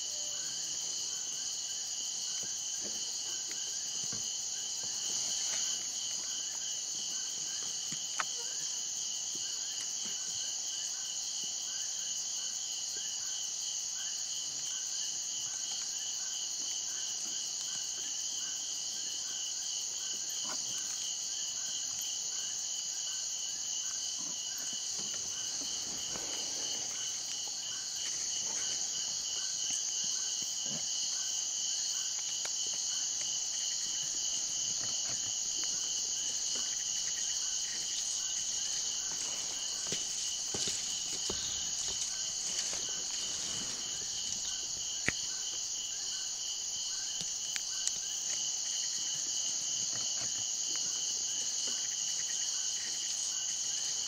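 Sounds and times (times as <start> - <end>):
crickets and katydids trilling: 0.0 - 54.0
insect chirping: 0.0 - 54.0.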